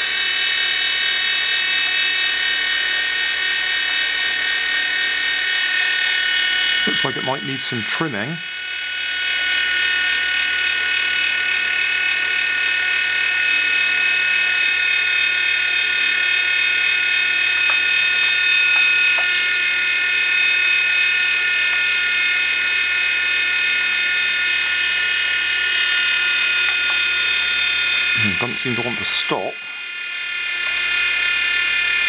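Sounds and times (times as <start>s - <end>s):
toy helicopter motors whirring: 0.0s - 32.0s.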